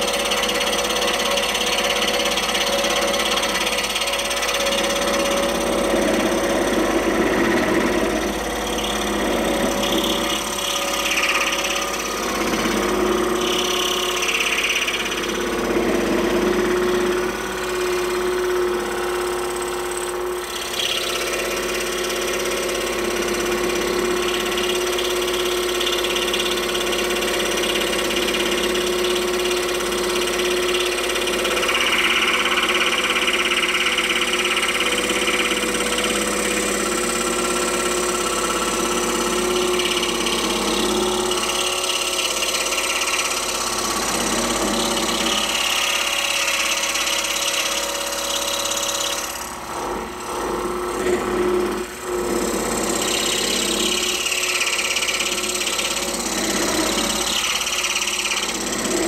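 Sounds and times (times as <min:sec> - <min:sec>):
scroll saw cutting wood: 0:00.0 - 0:59.0.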